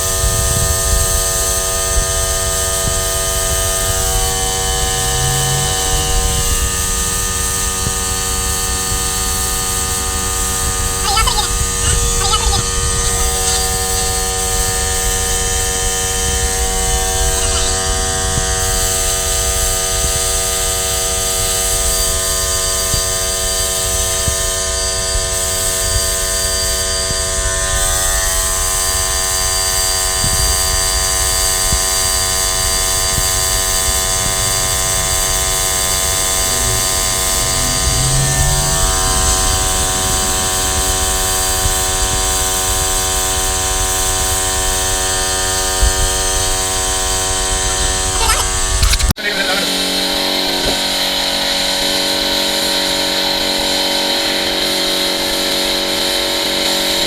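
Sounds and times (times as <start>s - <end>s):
electric motor buzzing whine: 0.0s - 49.1s.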